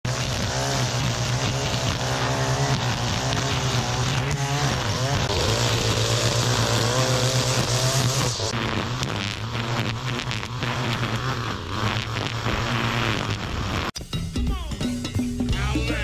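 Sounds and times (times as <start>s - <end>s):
string trimmer cutting grass: 0.0s - 14.0s.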